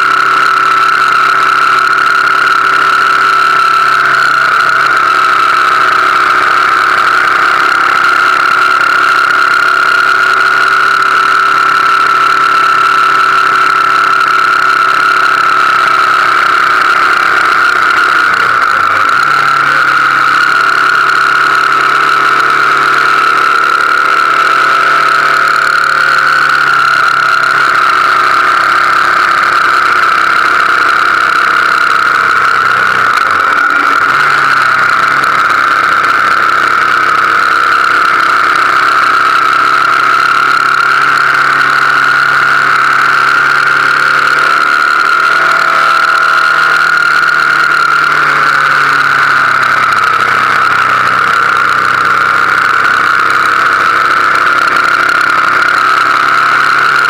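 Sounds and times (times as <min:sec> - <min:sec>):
high whine: 0:00.0 - 0:57.0
motorcycle engine cruising: 0:00.0 - 0:57.0.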